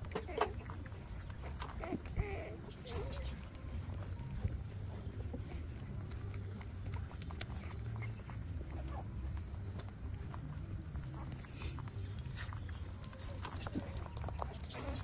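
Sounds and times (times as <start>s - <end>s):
low steady rumble: 0.0s - 15.0s
puppies sucking and smacking: 0.0s - 15.0s.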